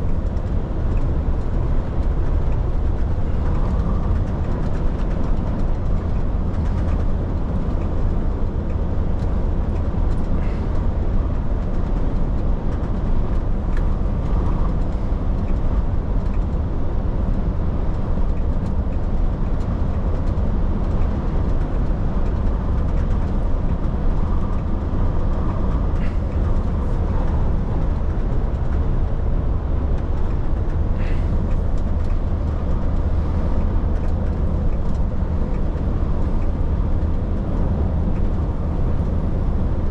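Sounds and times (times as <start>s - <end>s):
truck engine rumble: 0.0s - 39.9s
faint clicks and rattles: 0.1s - 39.9s.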